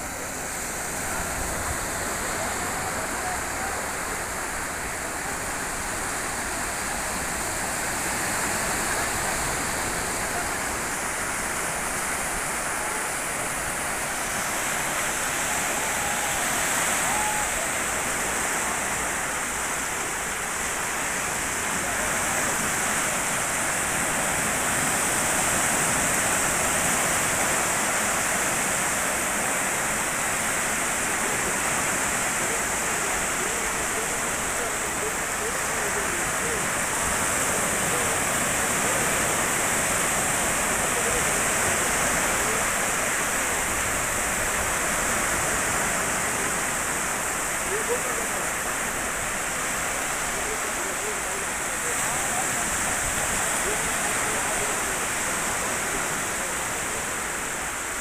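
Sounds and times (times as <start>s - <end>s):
waves washing up beach: 0.0s - 58.0s.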